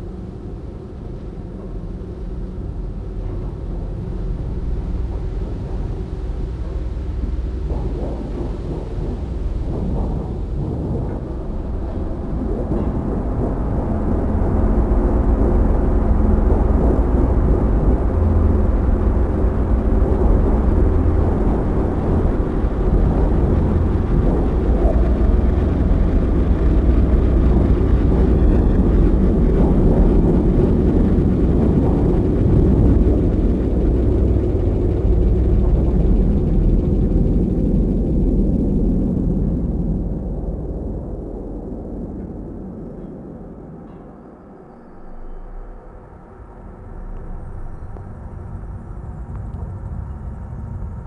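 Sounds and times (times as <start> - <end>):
low rumbling ambient drone: 0.0 - 51.0.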